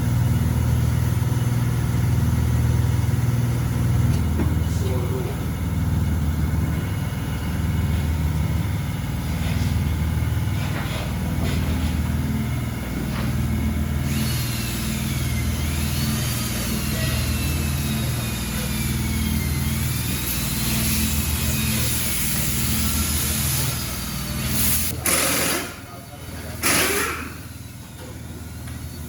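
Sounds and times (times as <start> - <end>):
machine pulsing rumble: 0.0 - 29.0.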